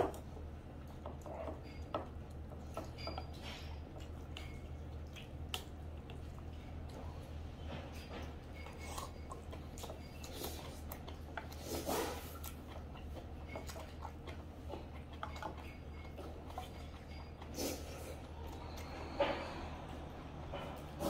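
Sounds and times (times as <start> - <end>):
low steady hum: 0.0 - 21.0
person chewing: 0.0 - 21.0.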